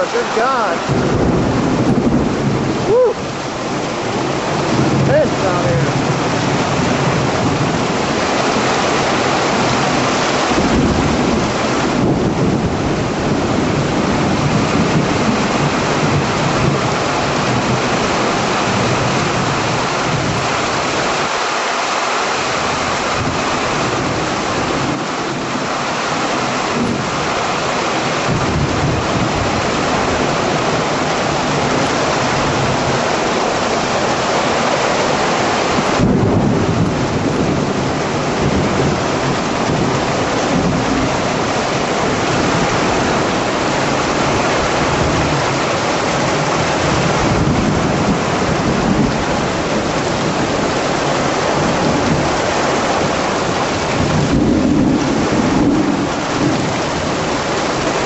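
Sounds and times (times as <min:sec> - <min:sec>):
heavy rain pouring: 0:00.0 - 0:58.0
low thunder rumbling: 0:00.7 - 0:21.2, 0:22.5 - 0:58.0.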